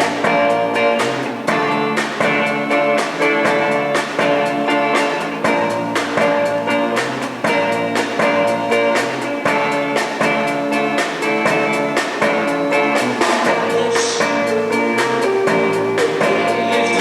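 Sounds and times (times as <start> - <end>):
drum kit beat: 0.0 - 17.0
electric guitar notes: 0.0 - 17.0.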